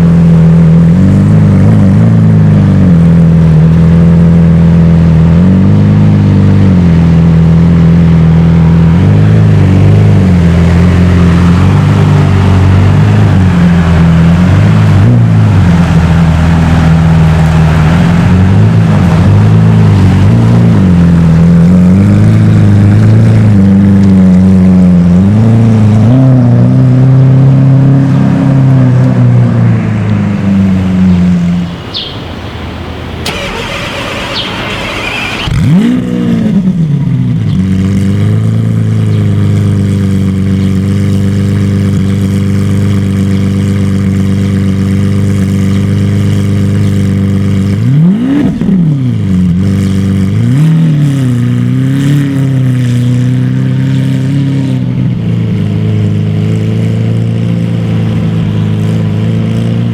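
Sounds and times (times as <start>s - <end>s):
sports car engine idling and revving: 0.0s - 59.9s.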